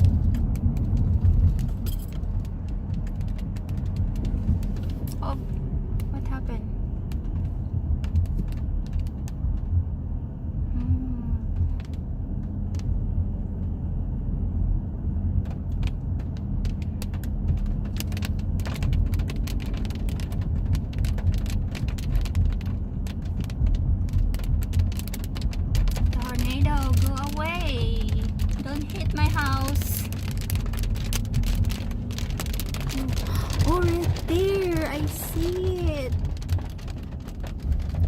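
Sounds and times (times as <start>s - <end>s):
sharp clicks and crackles: 0.0s - 10.0s, 10.7s - 13.8s, 15.3s - 38.0s
low rumble: 0.0s - 38.0s.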